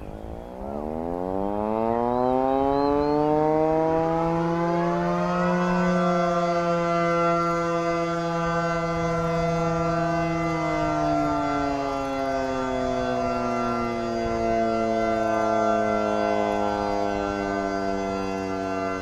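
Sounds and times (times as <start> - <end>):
air-raid siren wailing: 0.0 - 19.0.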